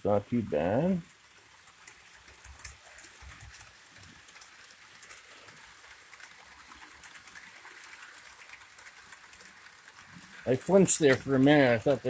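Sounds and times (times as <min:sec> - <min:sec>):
model train whirr: 0:00.0 - 0:12.0
train wheel clicks: 0:00.0 - 0:12.0.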